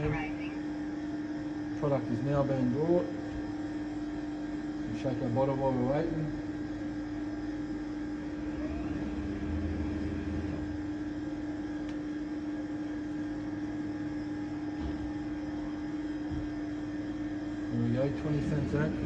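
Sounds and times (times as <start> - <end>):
vending machine humming: 0.0 - 19.0.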